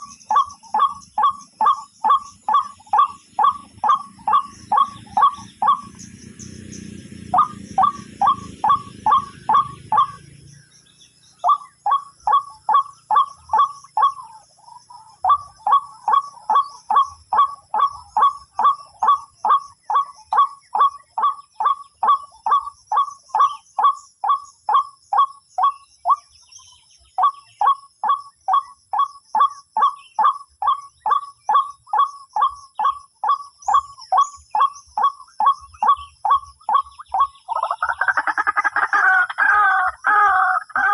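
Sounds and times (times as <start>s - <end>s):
bird calling harsh repeated notes: 0.0s - 40.9s.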